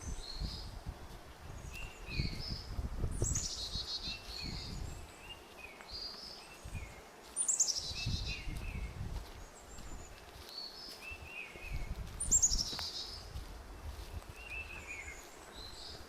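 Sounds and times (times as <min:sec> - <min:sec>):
footsteps on forest trail: 0:00.0 - 0:16.0
songbirds singing: 0:00.0 - 0:16.0.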